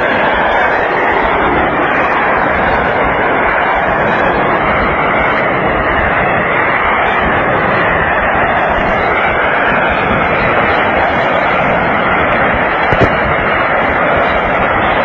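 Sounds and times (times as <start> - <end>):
rockets roaring: 0.0 - 15.0.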